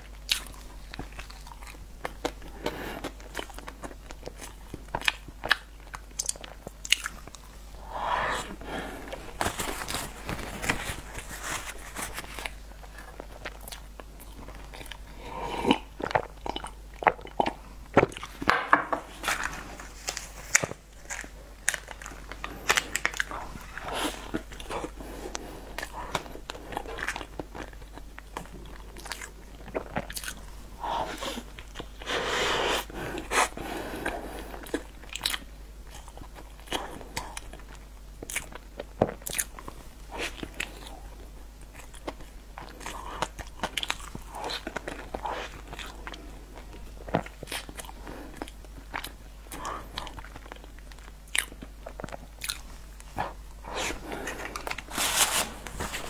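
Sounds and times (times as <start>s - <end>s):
person chewing cake: 0.0s - 56.0s.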